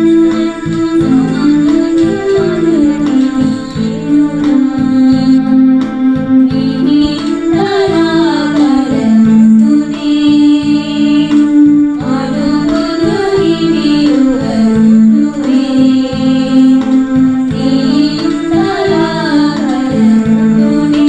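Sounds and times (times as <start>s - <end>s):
person singing: 0.0s - 21.0s
sustained instrumental tones: 0.0s - 21.0s.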